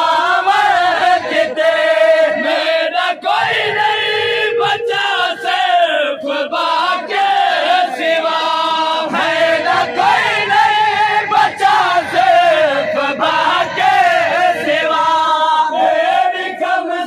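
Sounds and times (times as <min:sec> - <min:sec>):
men chanting a lament: 0:00.0 - 0:17.0.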